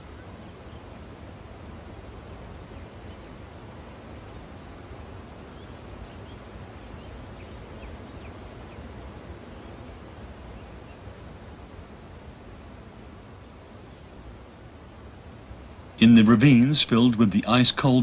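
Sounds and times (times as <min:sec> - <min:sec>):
low rushing outdoor noise: 0:00.0 - 0:18.0.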